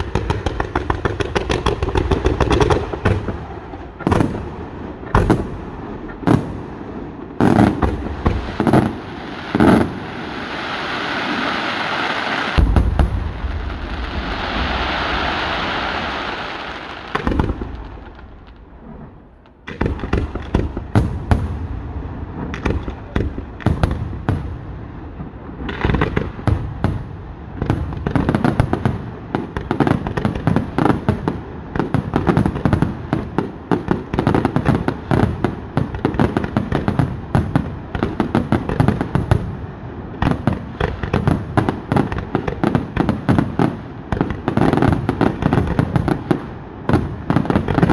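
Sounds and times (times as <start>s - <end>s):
fireworks crackling hiss: 0.0s - 47.9s.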